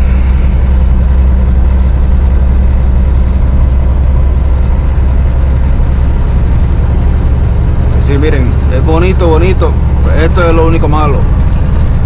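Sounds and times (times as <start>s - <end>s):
diesel engine drone: 0.0s - 12.0s
road noise: 0.0s - 12.0s.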